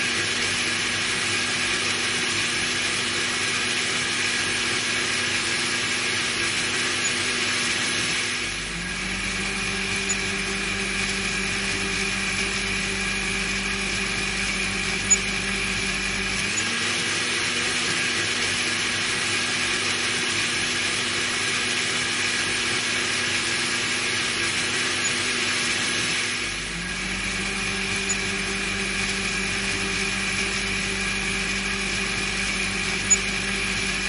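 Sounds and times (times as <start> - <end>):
blender motor whirring: 0.0 - 34.0.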